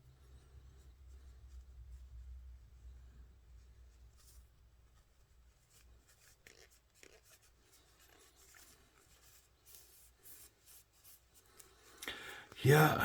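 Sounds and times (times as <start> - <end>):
cloth rubbing and scratching: 0.0 - 11.9.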